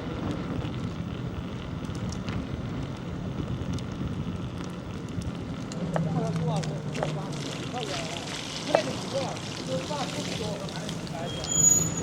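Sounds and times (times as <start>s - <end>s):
bicycle tyres rolling on road: 0.0s - 12.0s.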